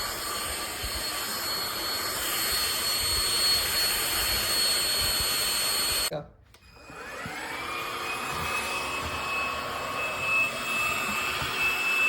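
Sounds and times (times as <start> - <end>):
stick vacuum motor whine: 0.0 - 12.0.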